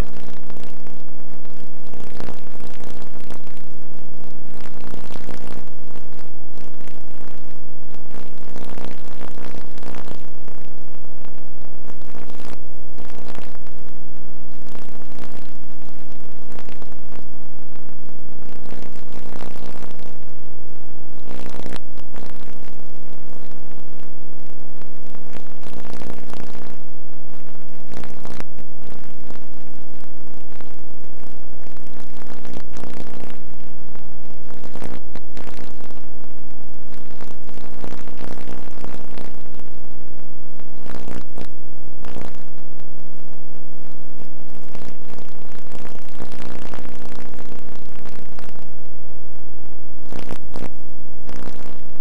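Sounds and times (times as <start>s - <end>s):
buzzing hum: 0.0s - 52.0s
crackles: 0.0s - 52.0s.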